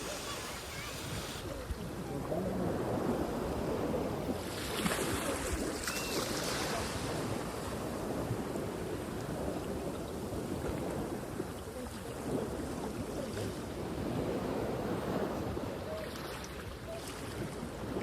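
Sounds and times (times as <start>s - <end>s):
sea surf washing in: 0.0s - 18.0s
wind buffeting microphone: 0.0s - 18.0s.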